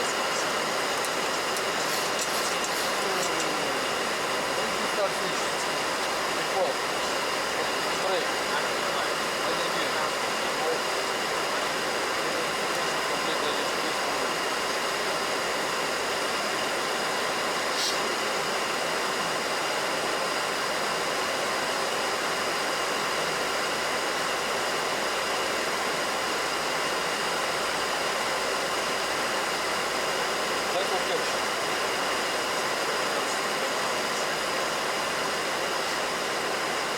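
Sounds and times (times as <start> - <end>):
cockpit airflow and air conditioning: 0.0 - 36.9.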